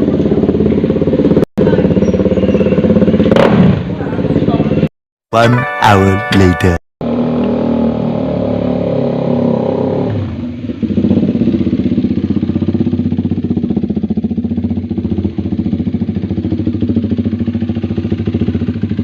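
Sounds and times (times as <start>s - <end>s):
motorcycle engine revving and idling: 0.0s - 4.9s, 7.0s - 19.0s.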